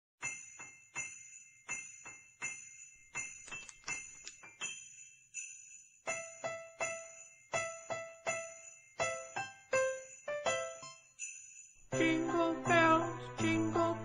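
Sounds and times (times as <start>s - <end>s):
sleigh bells shaken: 0.2s - 14.0s.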